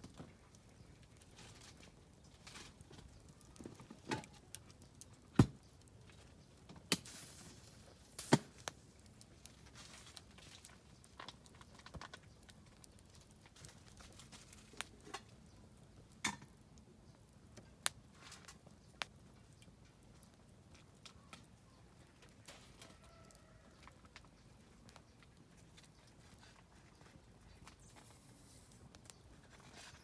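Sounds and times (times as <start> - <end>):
campfire crackling and popping: 0.0 - 30.0
low hiss of fire: 0.1 - 26.8, 27.6 - 30.0.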